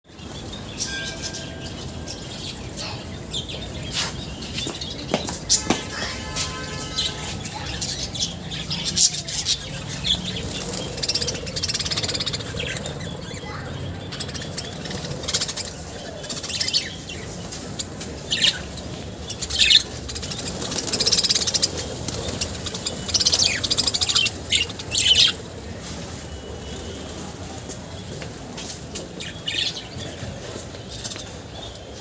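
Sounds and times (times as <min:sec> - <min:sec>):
birds chirping and squawking: 0:00.1 - 0:25.8, 0:26.4 - 0:32.0.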